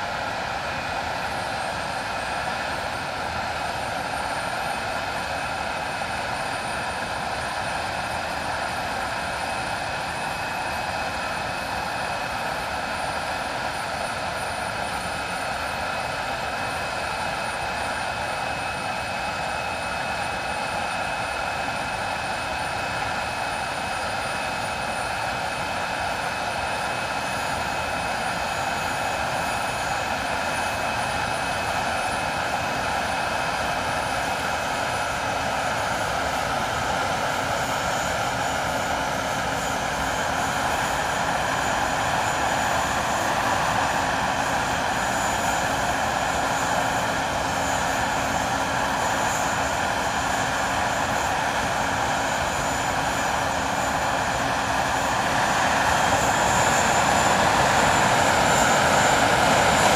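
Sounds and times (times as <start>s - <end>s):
jet engines roaring with whine: 0.0s - 59.9s.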